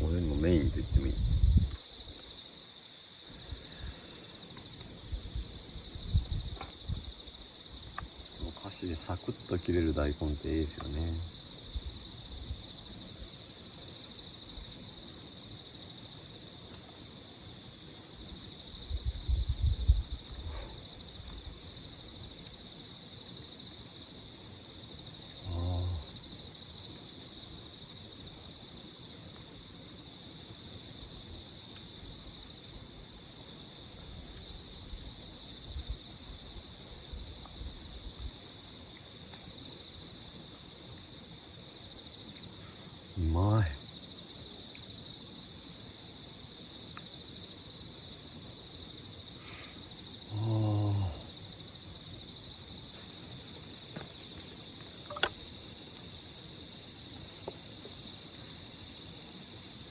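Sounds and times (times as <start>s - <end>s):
crickets and insects trilling: 0.0s - 59.9s.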